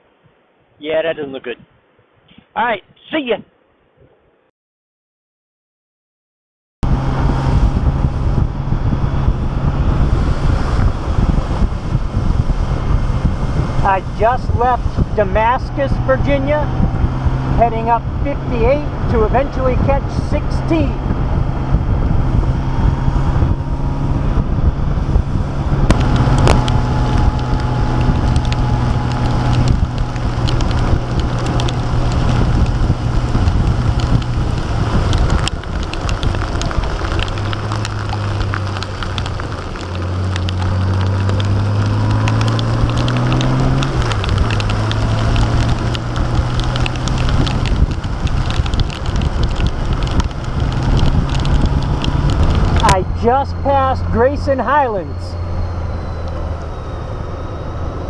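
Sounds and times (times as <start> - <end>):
wind rushing: 6.8 - 54.2
motorcycle engine running: 6.8 - 54.8
tyres on wet road: 6.8 - 58.0.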